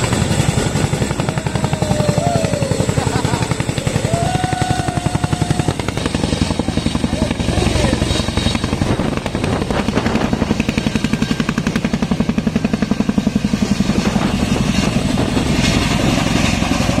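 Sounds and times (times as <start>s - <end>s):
helicopter rotor blades thudding: 0.0s - 17.0s
turbine hum: 0.0s - 17.0s.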